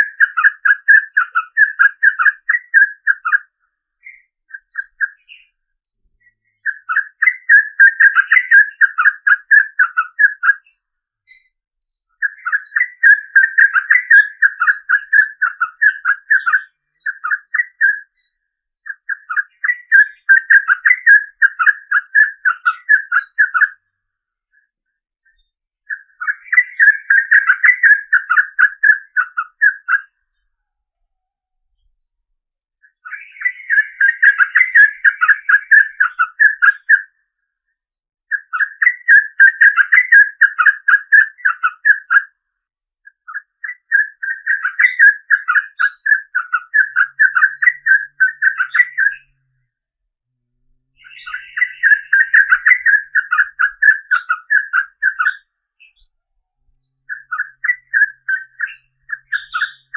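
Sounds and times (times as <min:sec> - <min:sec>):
bird singing in rapid chattering phrases: 0:00.0 - 0:30.6, 0:31.4 - 0:59.9.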